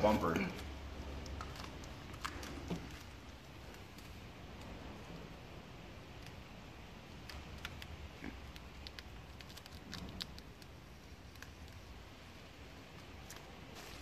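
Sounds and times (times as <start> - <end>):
vinyl film crinkling: 0.3 - 4.7, 6.1 - 14.0.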